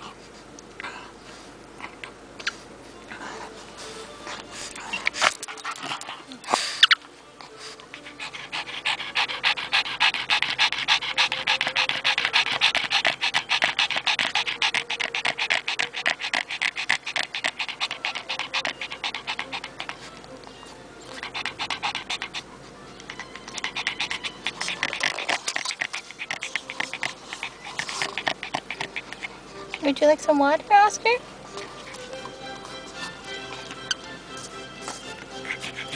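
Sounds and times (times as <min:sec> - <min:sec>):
dog panting rapidly: 0:01.2 - 0:35.9.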